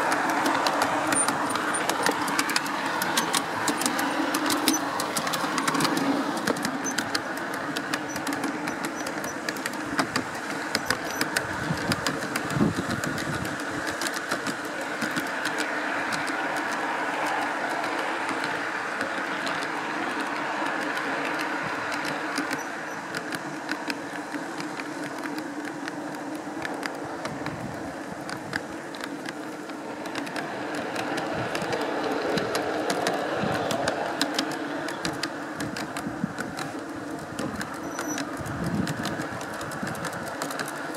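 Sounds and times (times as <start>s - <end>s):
model train wheels running: 0.0s - 40.9s
sharp clicks and rattles: 0.0s - 40.9s.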